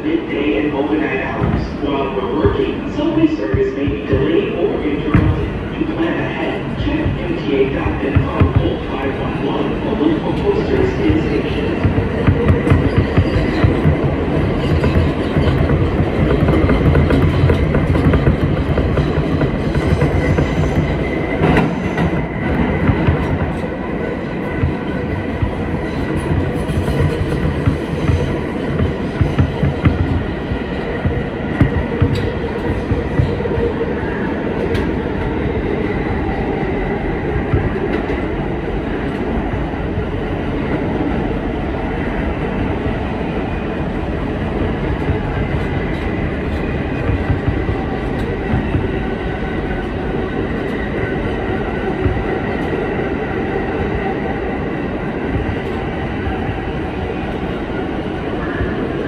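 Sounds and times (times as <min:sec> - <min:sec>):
train wheel and rail noise: 0:00.0 - 0:59.0
clickety-clack over rail joints: 0:00.8 - 0:35.3, 0:37.2 - 0:41.2, 0:44.3 - 0:59.0.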